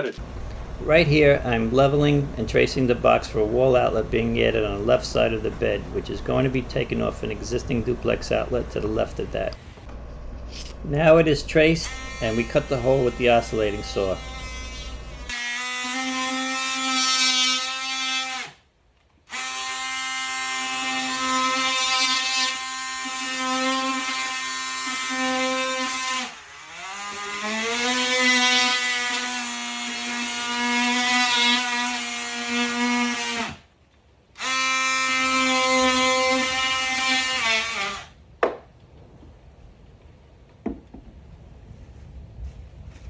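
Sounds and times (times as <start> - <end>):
oscillating multi-tool buzzing: 0.2 - 9.6, 10.2 - 18.6, 19.3 - 33.7, 34.4 - 38.2.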